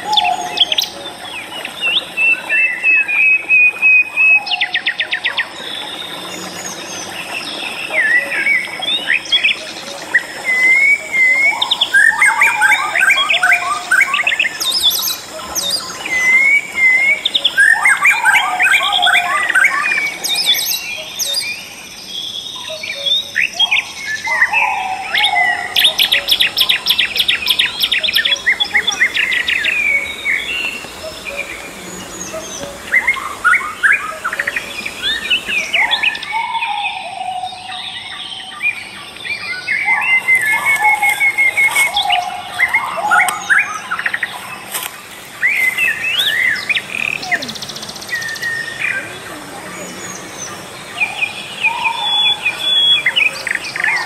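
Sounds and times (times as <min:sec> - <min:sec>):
birds singing and calling: 0:00.0 - 0:54.0.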